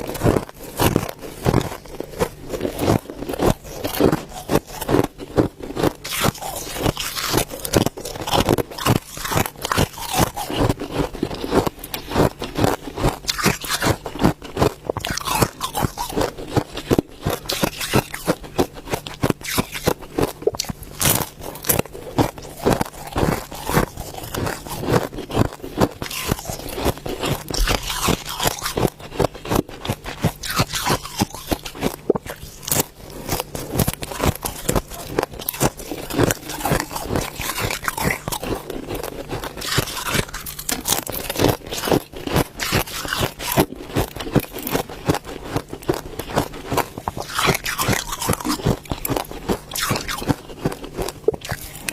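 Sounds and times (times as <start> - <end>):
ice crunching being chewed: 0.0 - 51.9
scraping and crackling: 0.0 - 51.9.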